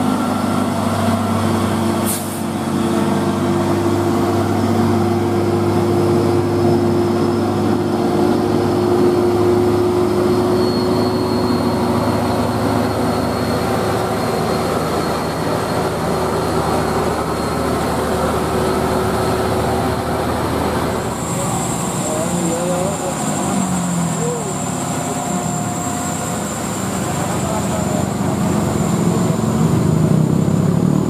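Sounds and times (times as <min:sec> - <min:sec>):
coach diesel engine passing: 0:00.0 - 0:31.0
thin high whine: 0:03.7 - 0:30.6.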